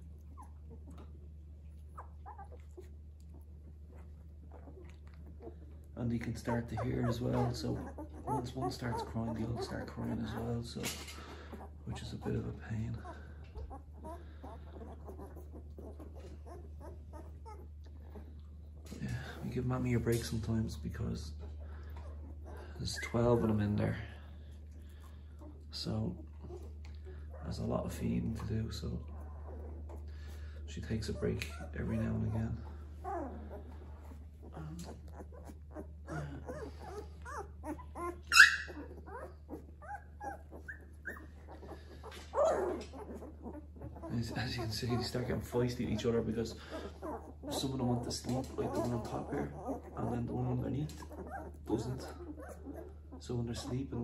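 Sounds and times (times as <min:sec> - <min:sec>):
puppies whimpering and crying: 0:00.0 - 0:54.0
steady low hum: 0:00.0 - 0:54.0.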